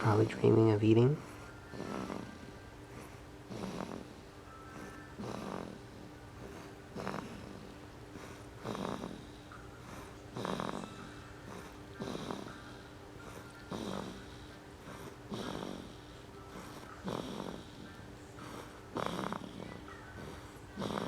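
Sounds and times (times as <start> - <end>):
baby snoring: 0.0 - 21.0.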